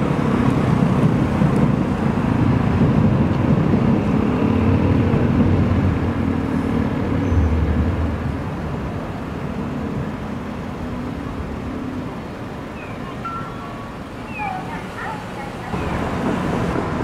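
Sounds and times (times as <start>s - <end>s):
electric train rumbling across bridge: 0.0s - 17.0s
road traffic noise: 0.0s - 17.0s.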